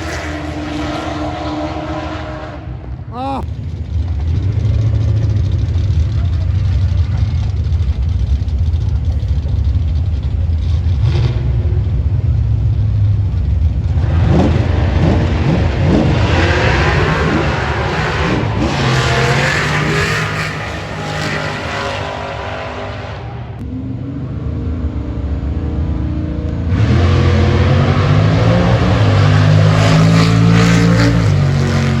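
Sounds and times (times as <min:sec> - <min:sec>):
car engine revving: 0:00.0 - 0:03.1, 0:03.8 - 0:23.4, 0:25.9 - 0:32.0.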